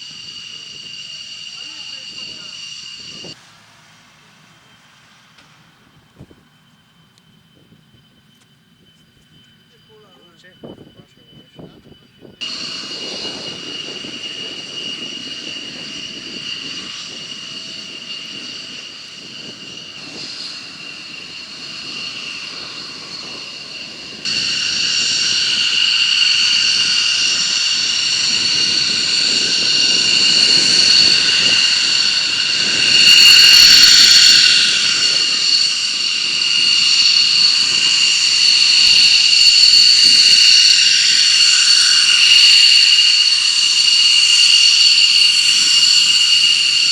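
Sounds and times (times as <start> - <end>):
jet engine turbine whine: 0.0 - 46.9.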